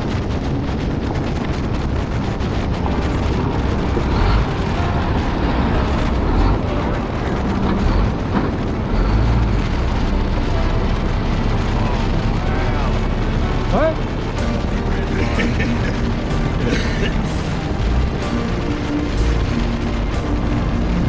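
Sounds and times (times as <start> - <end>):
motorcycle engine rumble: 0.0 - 21.0.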